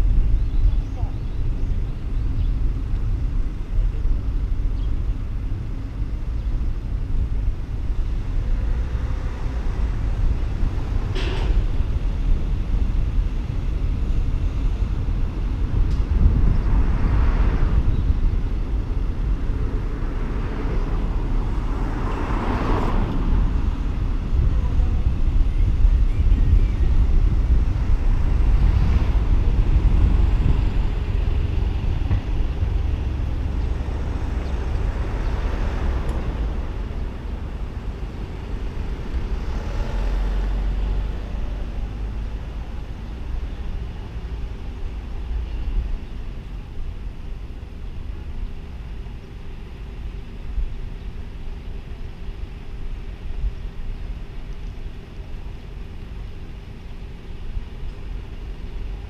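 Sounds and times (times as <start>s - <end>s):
car engine and road rumble: 0.0s - 59.0s
traffic hum: 0.0s - 59.0s
vehicles passing: 0.0s - 59.0s.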